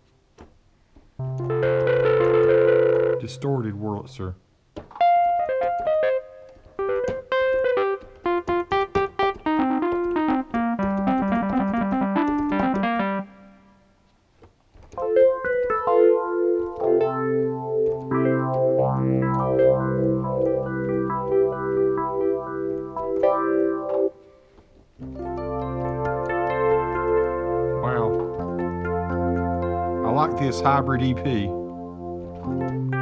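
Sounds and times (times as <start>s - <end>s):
distorted electric piano notes: 1.2s - 3.9s, 5.0s - 13.6s, 15.0s - 24.2s, 25.0s - 33.0s
electric piano held chords: 1.2s - 4.1s, 4.9s - 13.8s, 14.9s - 24.3s, 25.0s - 33.0s.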